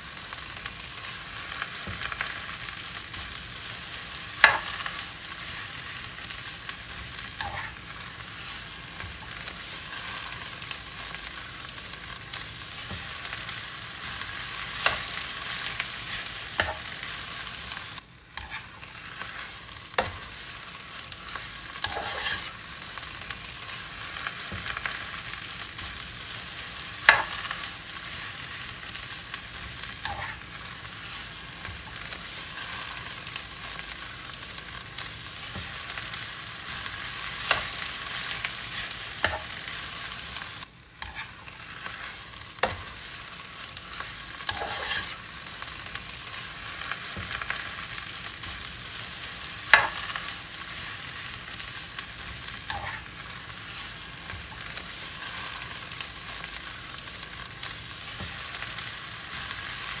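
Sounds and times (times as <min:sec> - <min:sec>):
food sizzling in a hot pan: 0:00.0 - 1:00.0.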